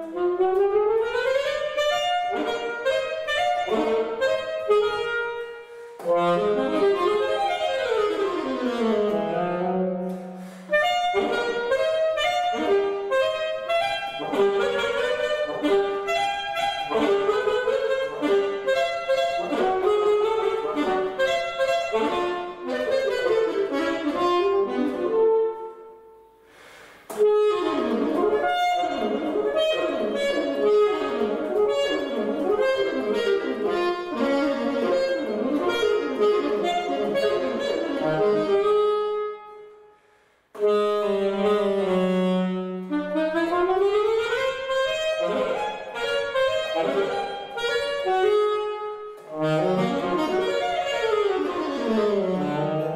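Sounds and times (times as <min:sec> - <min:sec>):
alto saxophone playing: 0:00.0 - 0:52.9.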